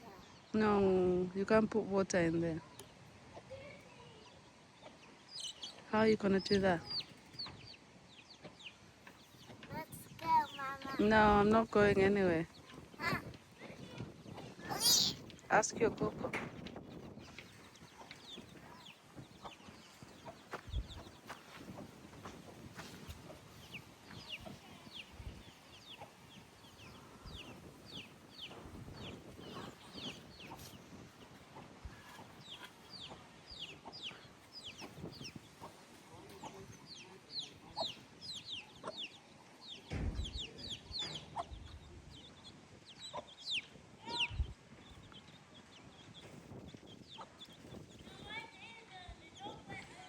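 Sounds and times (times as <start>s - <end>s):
chicks cheeping: 2.6s - 50.0s.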